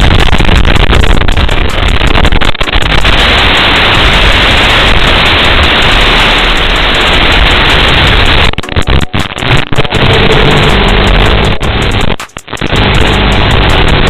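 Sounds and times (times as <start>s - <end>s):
loud static hiss: 0.0s - 14.0s.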